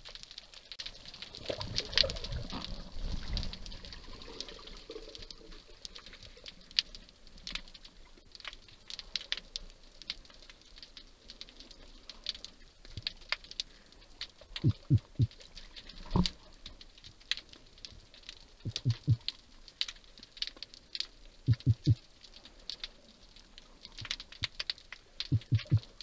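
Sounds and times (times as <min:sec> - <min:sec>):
underwater clicks and crackles: 0:00.0 - 0:26.0.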